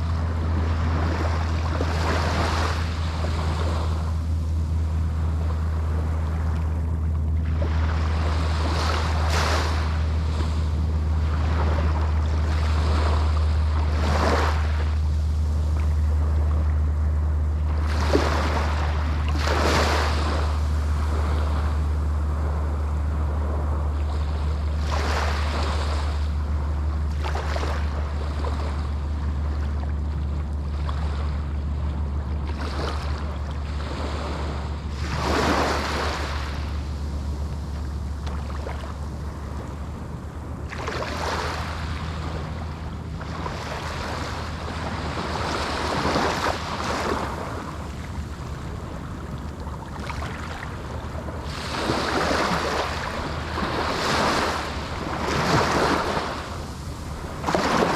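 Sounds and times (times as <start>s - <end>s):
steady low rumble: 0.0s - 57.9s
waves breaking on sandy beach: 0.0s - 57.9s.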